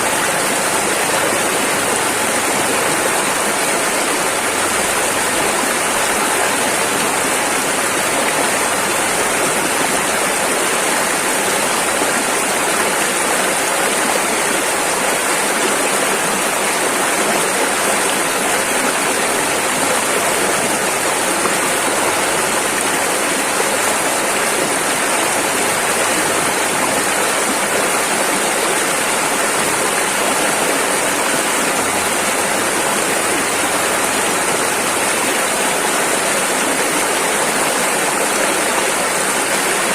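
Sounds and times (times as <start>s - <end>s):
river rushing over rapids: 0.0s - 39.9s.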